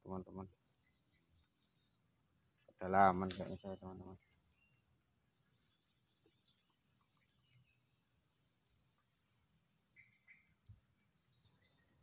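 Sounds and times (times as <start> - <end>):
faint chirps: 0.0 - 12.0
high-pitched insect chorus: 0.0 - 12.0.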